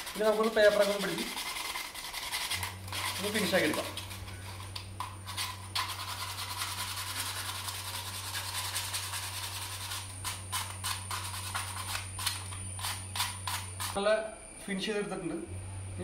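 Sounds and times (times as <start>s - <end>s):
sandpaper rubbing on plastic pipe: 0.0s - 14.0s.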